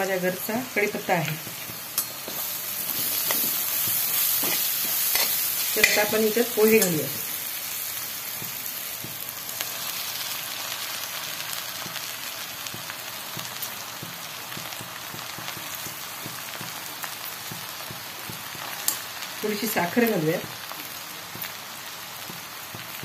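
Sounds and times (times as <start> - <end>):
oil sizzling in a pan: 0.0 - 23.0.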